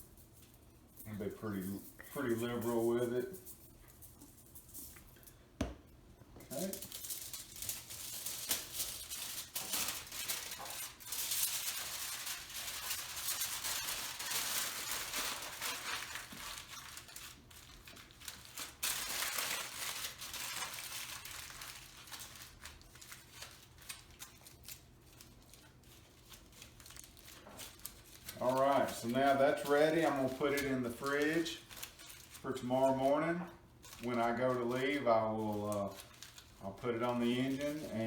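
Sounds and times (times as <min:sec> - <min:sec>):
wrapping material crinkling: 0:00.0 - 0:05.4, 0:06.4 - 0:38.0.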